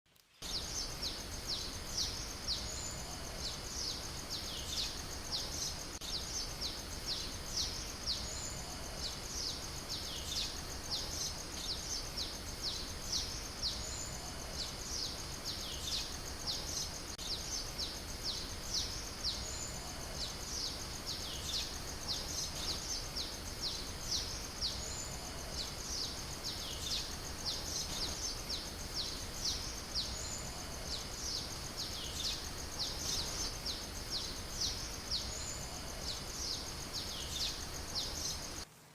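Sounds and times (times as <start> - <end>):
faint low background noise: 0.1 - 38.9
birds chirping: 0.4 - 38.6.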